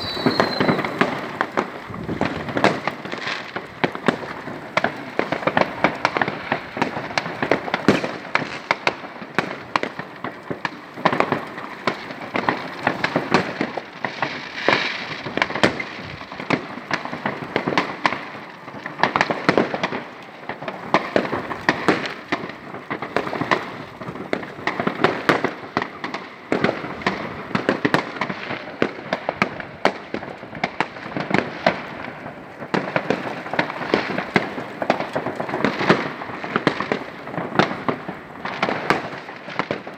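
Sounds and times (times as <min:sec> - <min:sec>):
firecrackers crackling: 0:00.0 - 0:39.9
fireworks bangs: 0:00.0 - 0:39.9.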